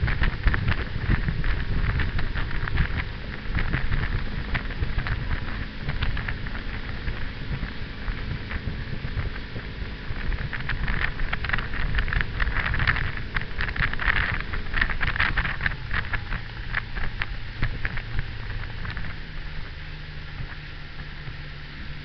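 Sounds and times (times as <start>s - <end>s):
motorboat engine rumbling: 0.0s - 22.0s
wind buffeting microphone: 0.0s - 22.0s.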